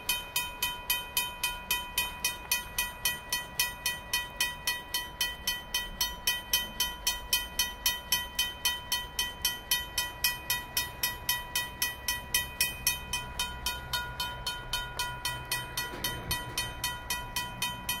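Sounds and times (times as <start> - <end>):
railroad crossing bell ringing: 0.0 - 18.0.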